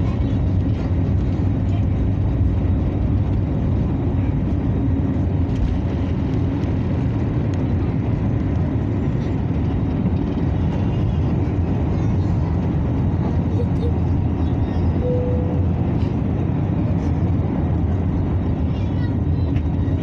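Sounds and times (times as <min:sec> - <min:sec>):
airliner cabin engine noise: 0:00.0 - 0:20.0.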